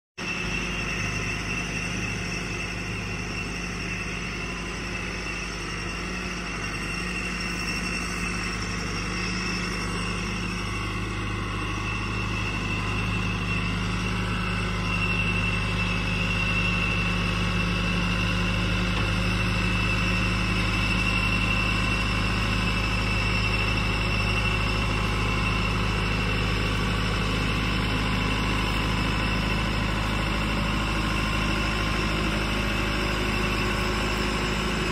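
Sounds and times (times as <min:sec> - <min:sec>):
high whine: 0:00.2 - 0:34.9
tractor diesel engine running: 0:00.2 - 0:34.9.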